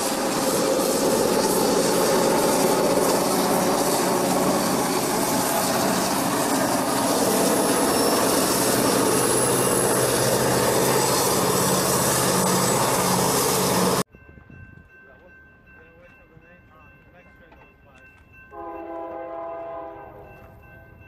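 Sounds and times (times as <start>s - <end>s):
train wheels rolling on rails: 0.0s - 19.3s.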